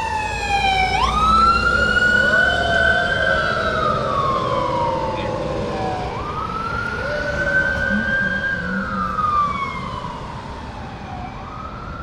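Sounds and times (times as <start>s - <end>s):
electronic siren wailing: 0.0s - 10.6s
low rumble of traffic: 0.0s - 12.0s
lower siren wailing: 0.0s - 12.0s.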